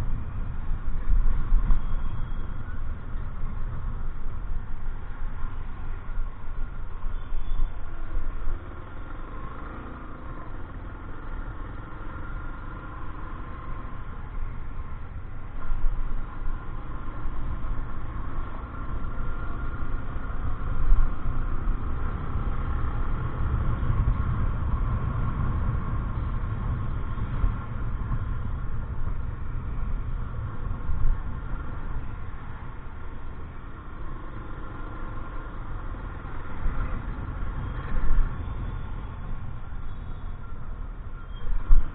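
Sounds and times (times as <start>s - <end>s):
road noise: 0.0s - 41.9s
vehicle engine rumbling: 0.0s - 41.9s.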